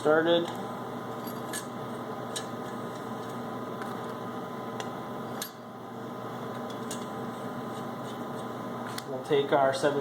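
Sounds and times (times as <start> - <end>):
steady room hum: 0.0 - 10.0.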